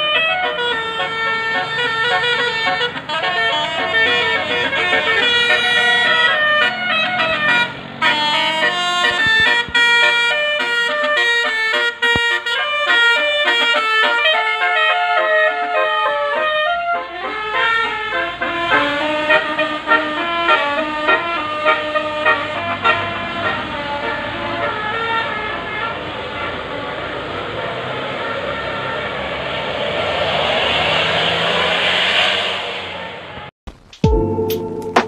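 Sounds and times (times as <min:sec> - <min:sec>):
musical bus horn playing a tune: 0:00.0 - 0:29.7.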